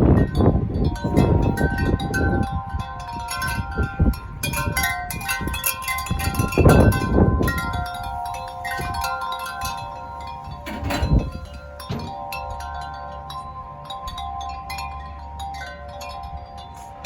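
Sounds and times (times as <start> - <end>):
wind chimes ringing: 0.0 - 17.0
wind gusts on microphone: 0.0 - 17.0.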